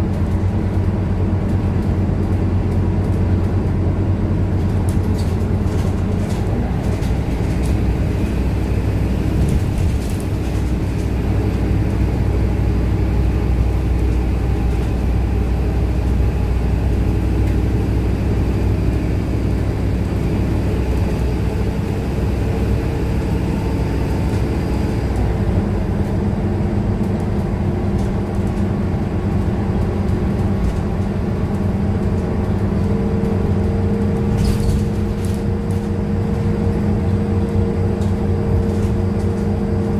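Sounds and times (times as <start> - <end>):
bus diesel engine running: 0.0 - 39.9
tyre and road noise: 0.0 - 39.9.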